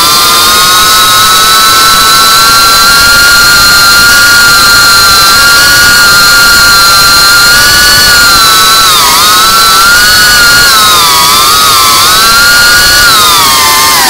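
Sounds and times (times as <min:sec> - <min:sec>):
loud steady hiss: 0:00.0 - 0:14.0
quadcopter motors whining: 0:00.0 - 0:14.0.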